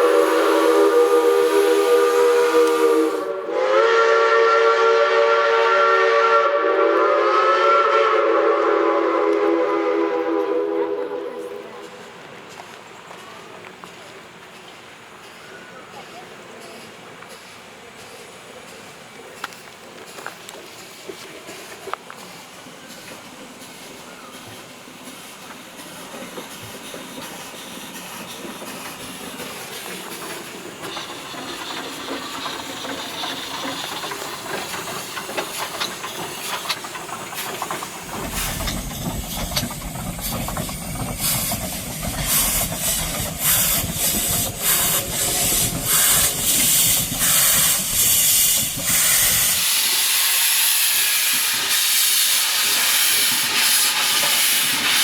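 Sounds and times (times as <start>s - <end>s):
steam hissing: 0.0s - 55.0s
steam locomotive chuffing: 0.0s - 55.0s.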